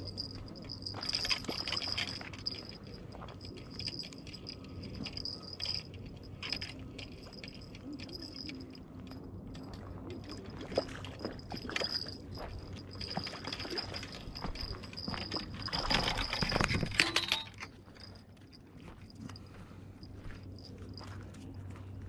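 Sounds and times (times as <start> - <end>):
fishing reel gears whining: 0.0 - 18.2
handling rustle and clicks: 0.0 - 22.0.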